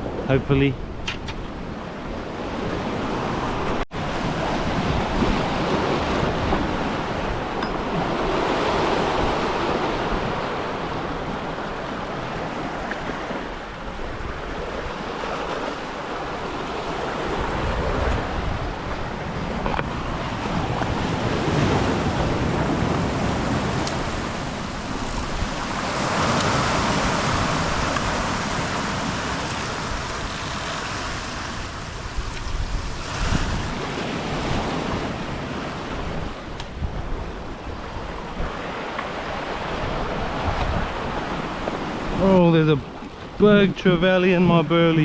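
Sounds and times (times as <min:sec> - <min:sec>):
wind on microphone: 0:00.0 - 0:42.2
ocean surf washing in: 0:00.0 - 0:45.0.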